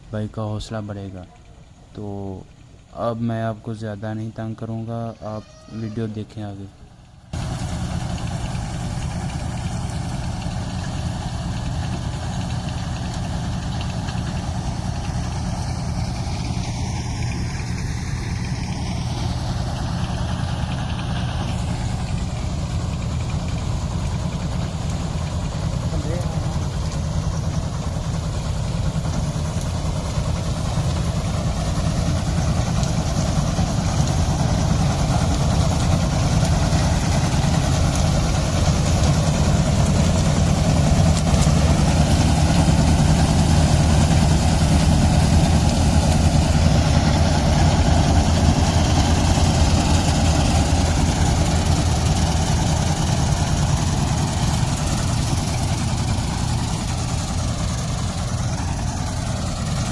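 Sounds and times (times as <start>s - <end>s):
harvester engine humming: 0.0s - 59.9s.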